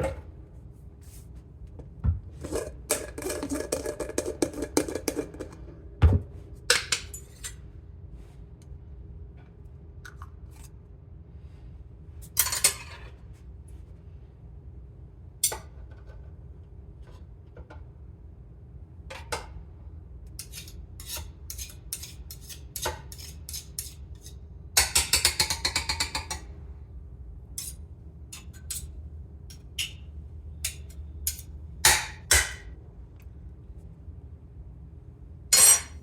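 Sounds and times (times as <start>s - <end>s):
steady low hum: 0.0s - 24.8s, 26.2s - 36.0s.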